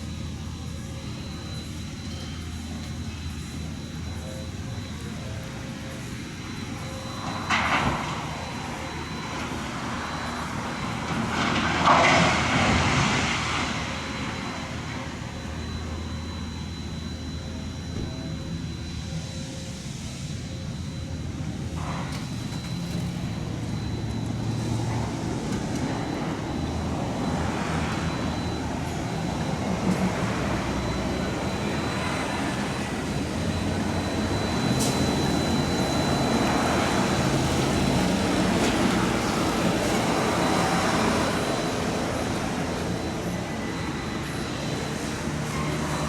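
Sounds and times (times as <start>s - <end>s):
diesel engine rumbling: 0.0s - 46.0s.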